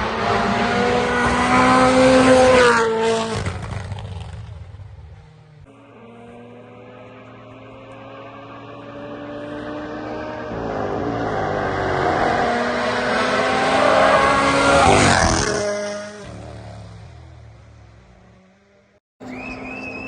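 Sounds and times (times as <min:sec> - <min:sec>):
rally car passing at speed: 0:00.0 - 0:20.0.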